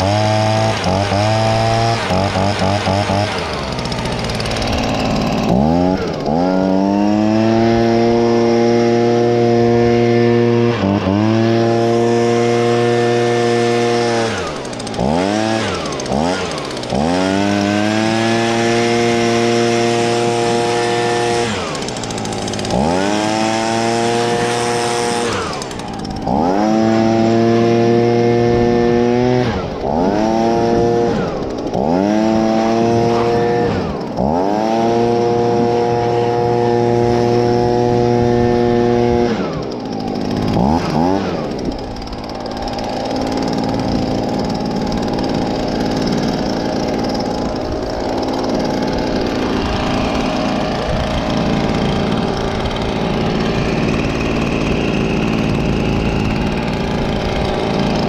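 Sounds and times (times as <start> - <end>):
leaf blower engine revving: 0.0 - 58.0.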